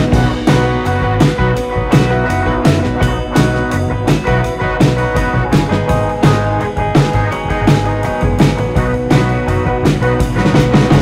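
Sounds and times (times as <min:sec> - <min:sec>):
steady drum beat: 0:00.0 - 0:11.0
sustained guitar-like tones: 0:00.0 - 0:11.0.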